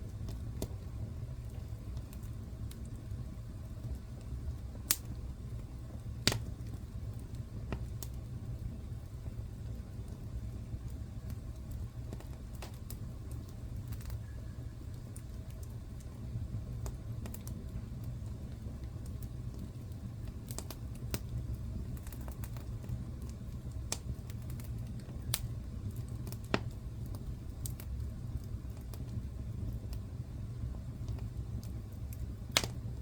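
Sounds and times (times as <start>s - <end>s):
fire popping and crackling: 0.0s - 33.0s
low rumble of flames: 0.0s - 33.0s.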